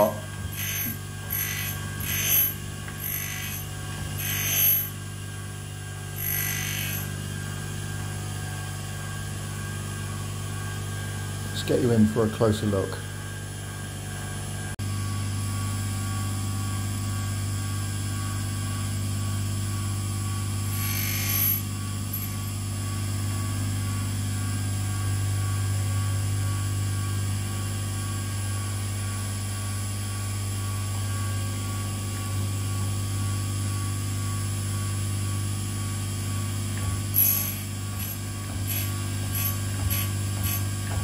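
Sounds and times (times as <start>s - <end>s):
grinder motor humming: 0.0s - 23.5s, 28.4s - 41.0s.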